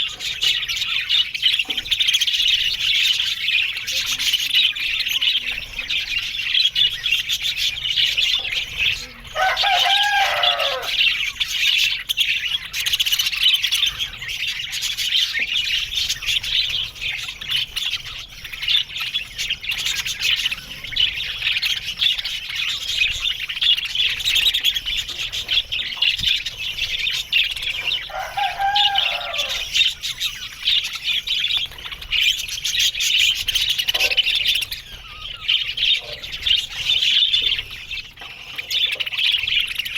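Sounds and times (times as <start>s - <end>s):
budgerigars chattering: 0.0s - 39.9s
low arching bird calls: 0.0s - 39.9s.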